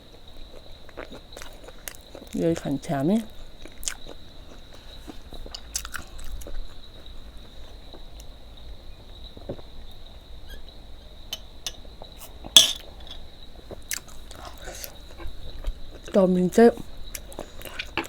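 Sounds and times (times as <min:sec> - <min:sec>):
faint high-pitched whine: 0:00.0 - 0:18.0
soft chewing: 0:00.0 - 0:18.0.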